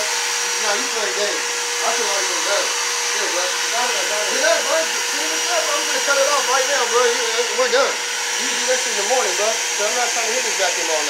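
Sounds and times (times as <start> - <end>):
shop vacuum running: 0.0 - 11.0.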